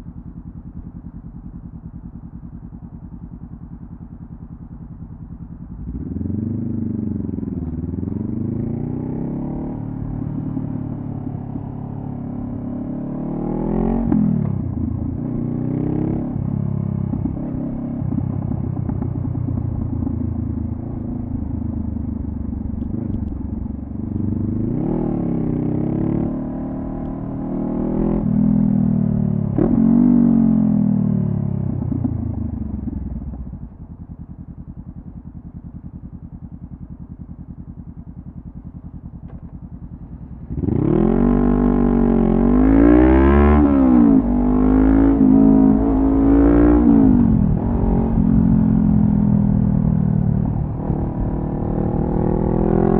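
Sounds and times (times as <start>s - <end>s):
motorcycle engine idling: 0.0s - 13.2s, 14.3s - 25.9s, 31.2s - 42.6s, 45.2s - 52.9s
motorcycle engine revving: 0.1s - 52.9s.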